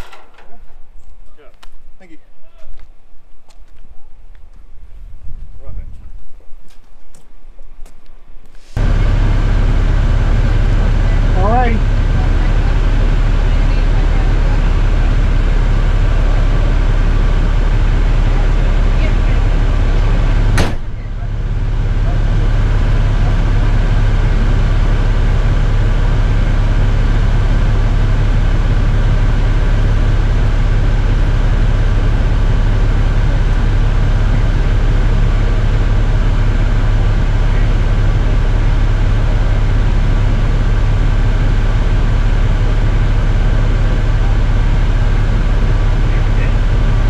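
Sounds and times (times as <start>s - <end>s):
mechanical drone with low hum: 8.8s - 47.0s.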